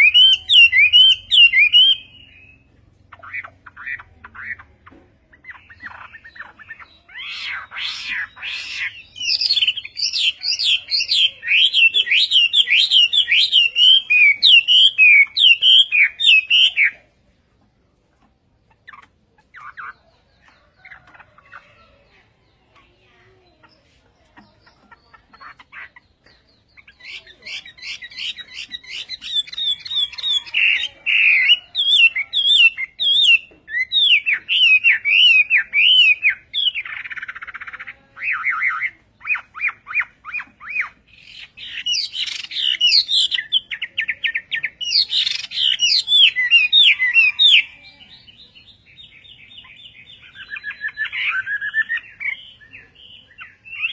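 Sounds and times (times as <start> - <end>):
songbird singing whistled phrases: 0.0 - 4.8, 5.4 - 17.0, 25.5 - 53.9.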